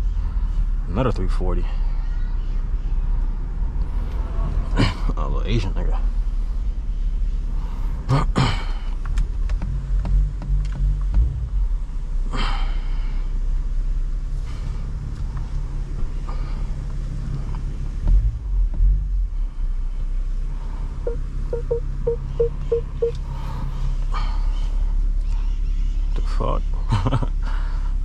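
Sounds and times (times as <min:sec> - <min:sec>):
car engine low rumble: 0:00.0 - 0:28.0.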